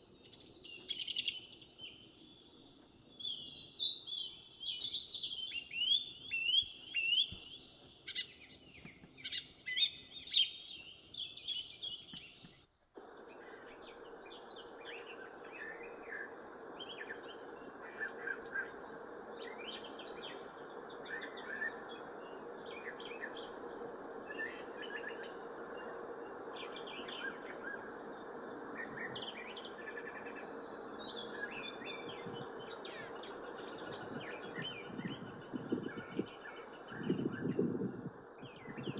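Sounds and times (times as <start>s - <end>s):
faint bird chirps: 0.0s - 38.9s
finches singing warble: 0.0s - 38.9s.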